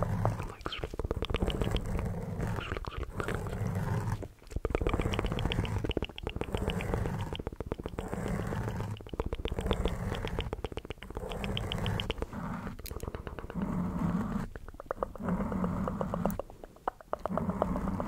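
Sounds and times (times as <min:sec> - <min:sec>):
wet mouth clicks and smacks: 0:00.0 - 0:03.6, 0:04.4 - 0:13.7, 0:14.4 - 0:17.8.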